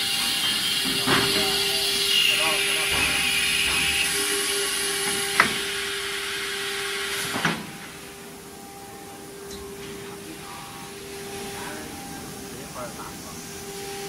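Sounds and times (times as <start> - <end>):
air hissing: 0.0 - 14.0
machinery hum: 0.0 - 14.0.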